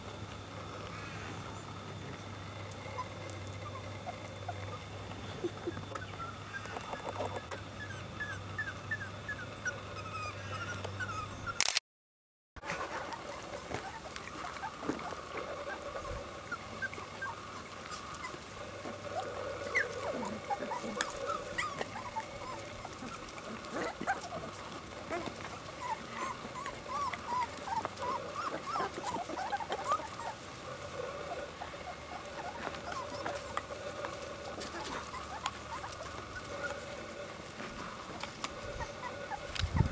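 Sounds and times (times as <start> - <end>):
puppies whimpering and squeaking: 2.7 - 11.6, 12.6 - 39.9.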